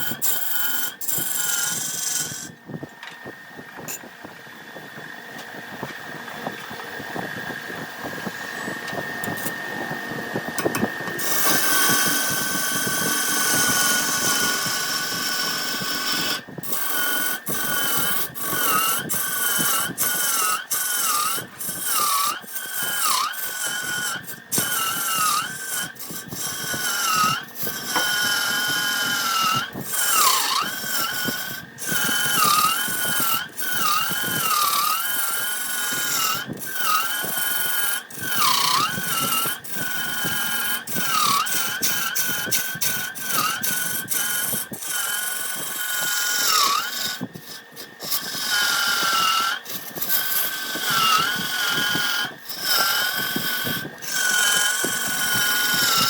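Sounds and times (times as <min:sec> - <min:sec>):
tool cutting spinning wood: 0:00.0 - 0:56.0
wood lathe motor whine: 0:00.0 - 0:56.0.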